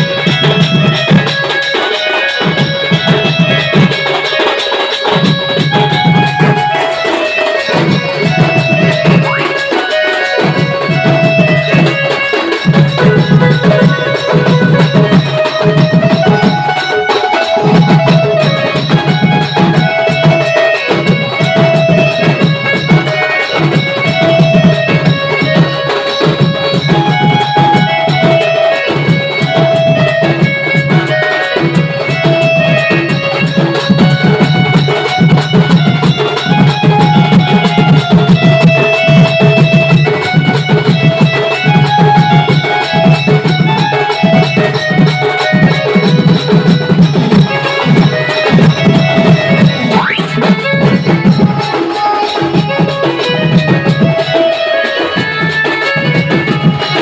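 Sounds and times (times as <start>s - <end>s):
drums keeping steady rhythm: 0.0s - 57.0s
lilting melody line: 0.0s - 57.0s.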